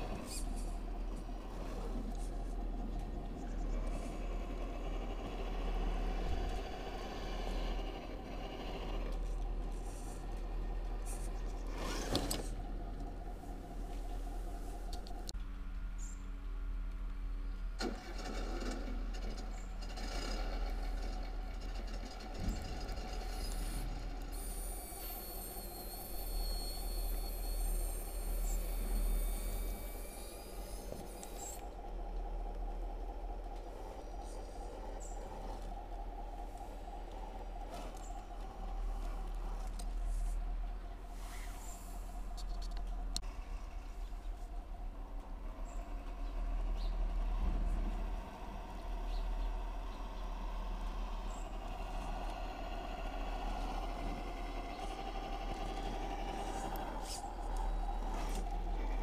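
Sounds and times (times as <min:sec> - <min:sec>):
electric winch motor whining: 0:00.0 - 0:15.2, 0:17.8 - 0:42.3, 0:43.6 - 0:59.0
simulated engine sound: 0:00.0 - 0:17.5, 0:19.0 - 0:59.0.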